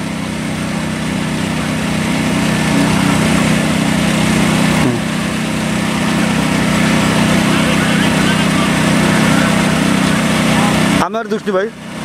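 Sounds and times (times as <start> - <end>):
small harvester engine running: 0.0 - 12.0.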